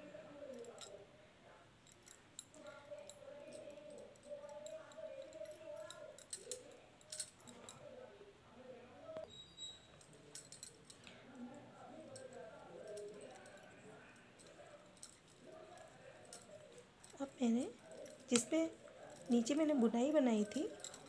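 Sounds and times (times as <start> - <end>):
low indistinct voices: 0.0 - 21.0.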